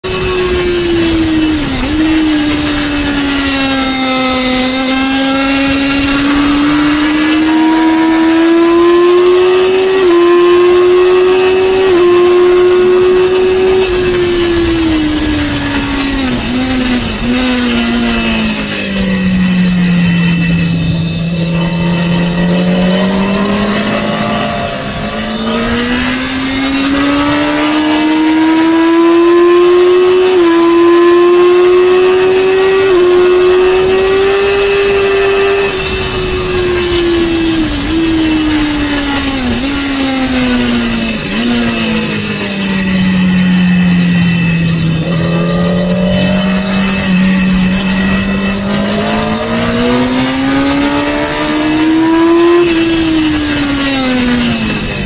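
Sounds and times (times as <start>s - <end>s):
motorcycle engine revving high: 0.0s - 55.0s.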